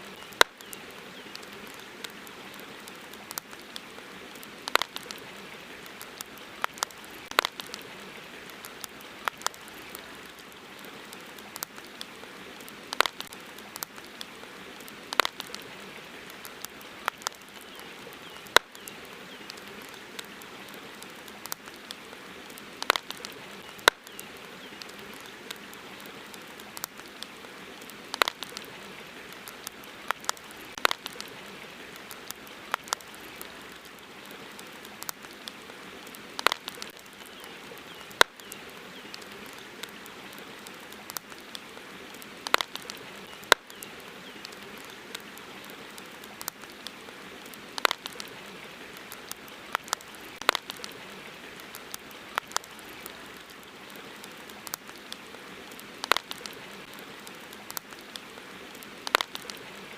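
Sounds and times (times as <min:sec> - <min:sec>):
campfire crackling and popping: 0:00.0 - 0:59.9
steady background hiss: 0:00.0 - 0:59.9.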